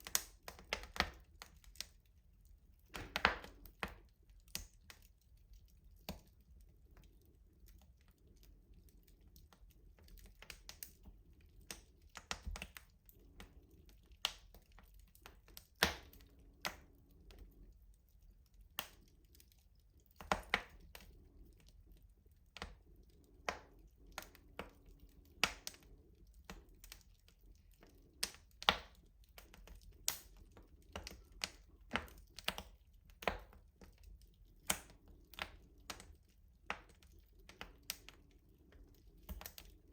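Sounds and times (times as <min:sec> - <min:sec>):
wood fire crackling in stove: 0:00.0 - 0:39.9.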